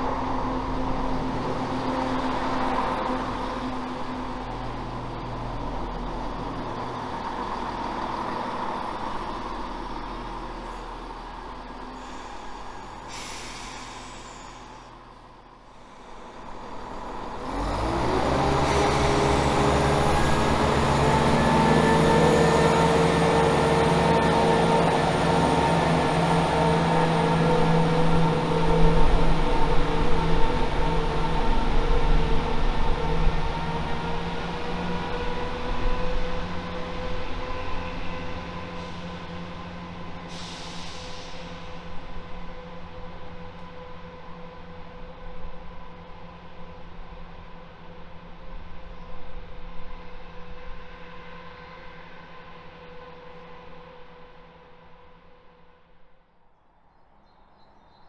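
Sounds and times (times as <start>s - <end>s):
train diesel engines humming: 0.0s - 56.0s
train running noise: 0.0s - 56.2s.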